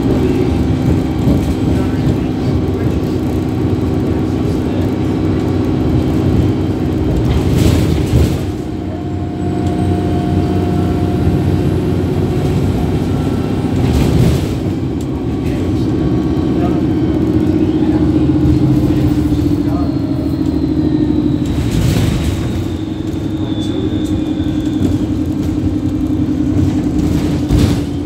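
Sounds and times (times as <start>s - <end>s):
bus engine droning: 0.0s - 28.0s
road and body noise: 0.0s - 28.0s.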